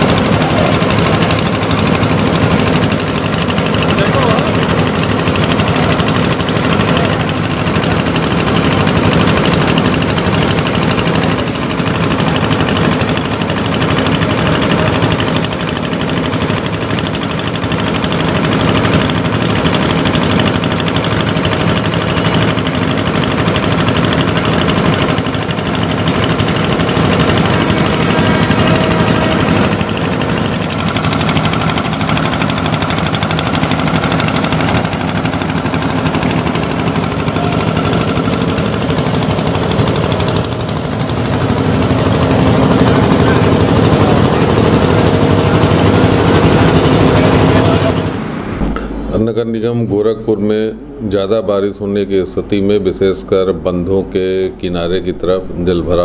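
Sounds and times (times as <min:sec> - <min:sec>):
water pump engines chugging: 0:00.0 - 0:56.0.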